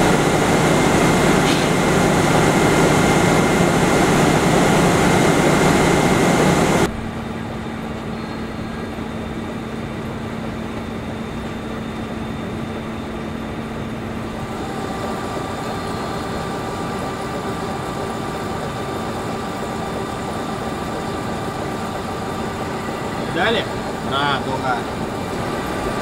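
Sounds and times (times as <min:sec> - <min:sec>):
engine droning: 0:00.0 - 0:26.0.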